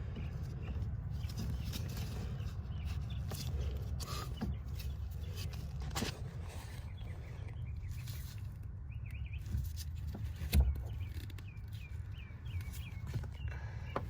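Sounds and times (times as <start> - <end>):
low steady rumble: 0.0 - 14.0
small birds chirping: 0.0 - 14.0.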